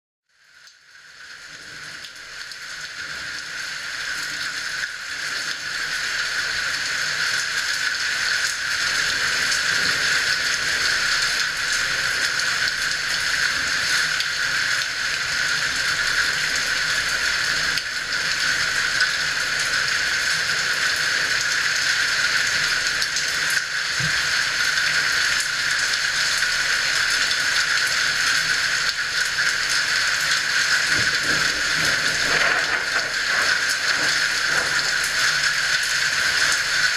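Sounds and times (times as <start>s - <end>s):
heavy rain falling: 1.2s - 36.9s.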